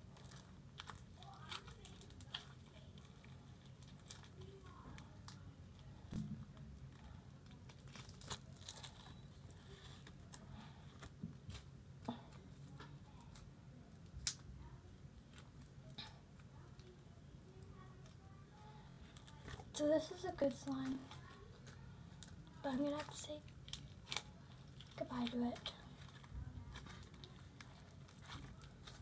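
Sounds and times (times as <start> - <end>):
slime popping and crackling: 0.0 - 11.7, 12.4 - 14.6, 19.1 - 29.0.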